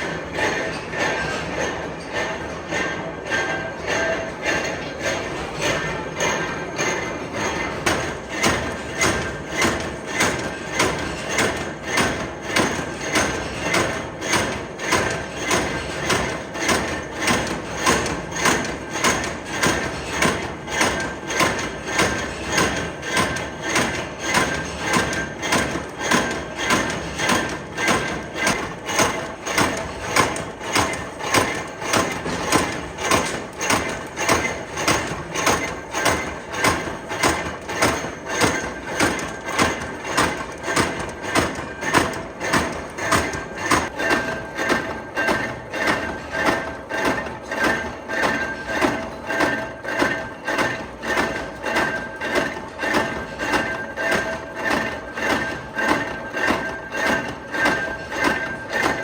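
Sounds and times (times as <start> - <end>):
constant mechanical din: 0.0 - 59.0
machine knocking rhythmically: 0.0 - 59.0.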